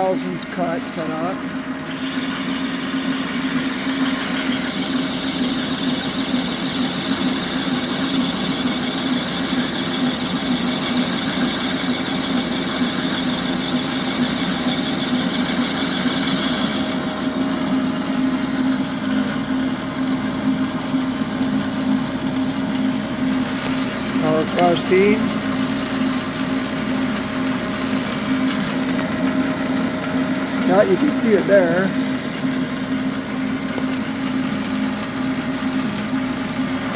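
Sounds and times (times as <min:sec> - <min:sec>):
lathe tool cutting whine: 0:00.0 - 0:36.9
metal lathe motor hum: 0:00.0 - 0:36.9.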